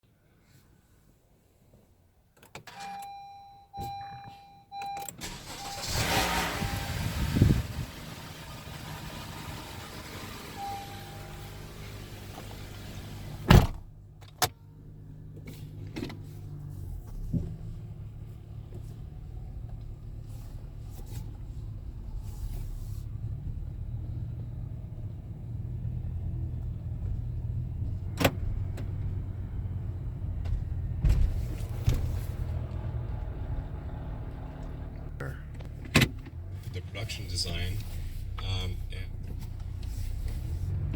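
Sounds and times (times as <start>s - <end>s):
car engine humming: 3.0s - 40.9s.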